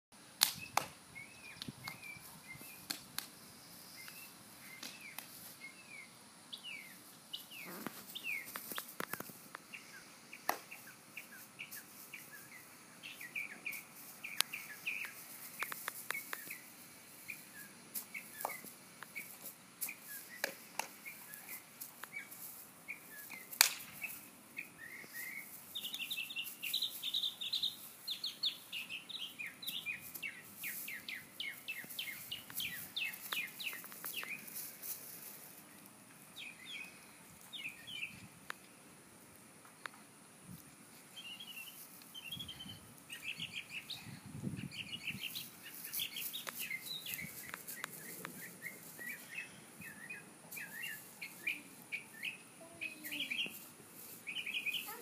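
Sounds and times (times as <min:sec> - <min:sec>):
small birds chirping: 0:00.4 - 0:38.9, 0:39.7 - 0:55.0.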